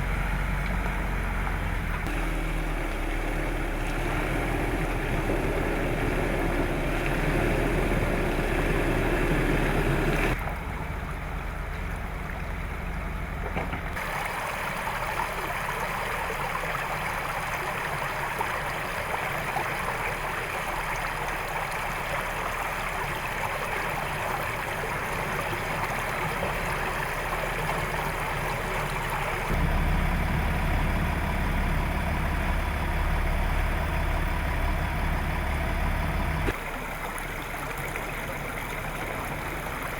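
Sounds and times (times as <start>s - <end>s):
diesel engine running at low revs: 0.0s - 39.9s
stream water rushing: 2.0s - 12.6s, 14.0s - 39.9s.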